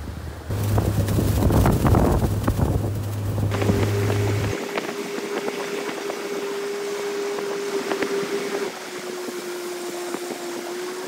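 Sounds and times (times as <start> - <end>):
water noise: 0.0 - 11.0
outboard motor running: 0.5 - 11.0
wind noise: 0.5 - 11.0.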